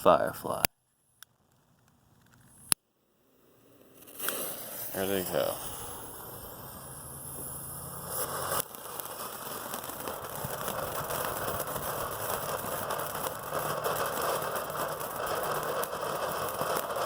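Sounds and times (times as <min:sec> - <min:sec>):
fireworks crackling fizz: 0:01.3 - 0:17.0.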